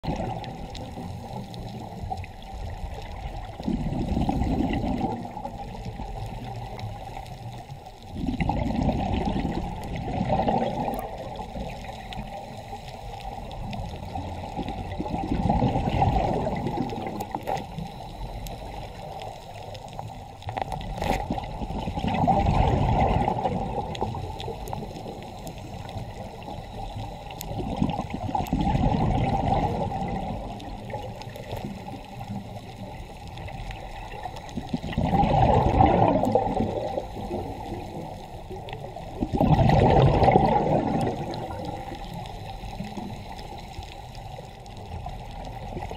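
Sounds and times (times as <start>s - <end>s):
exhaled bubbles underwater: 0.0s - 45.9s
steady water rush: 0.0s - 45.9s.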